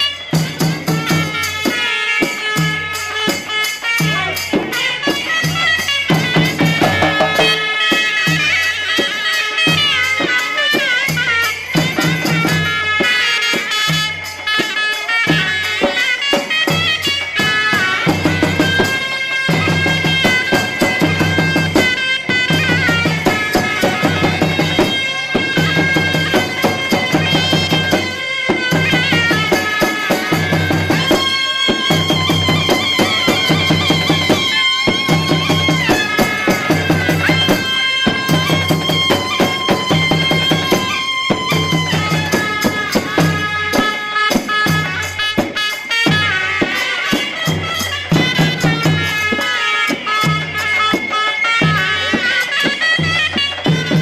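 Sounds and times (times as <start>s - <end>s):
double-reed shawm melody: 0.0s - 54.0s.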